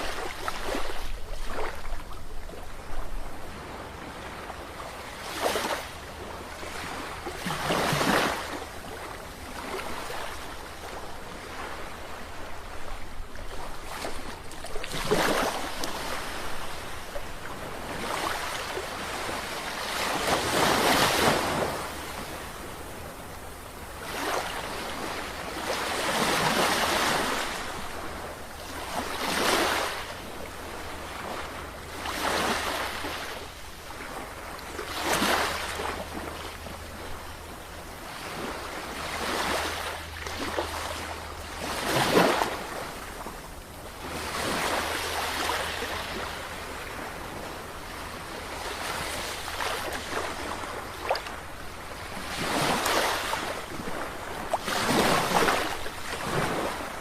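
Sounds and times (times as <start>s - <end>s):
waves breaking ashore: 0.0s - 37.2s, 37.8s - 57.0s.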